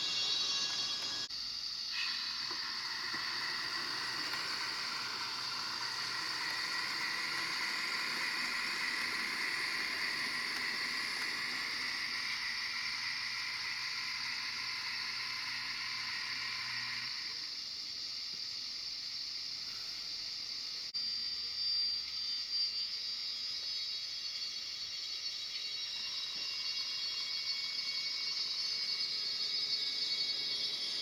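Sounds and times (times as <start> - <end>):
model locomotive whirring: 0.0 - 17.6, 21.0 - 31.0.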